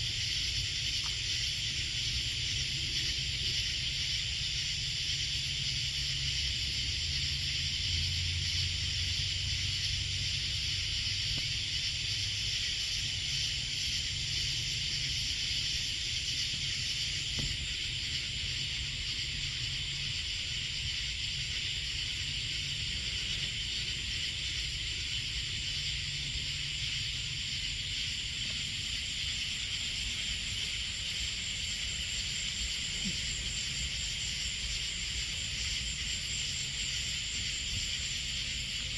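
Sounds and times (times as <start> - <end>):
night insects shrilling: 0.0 - 38.9.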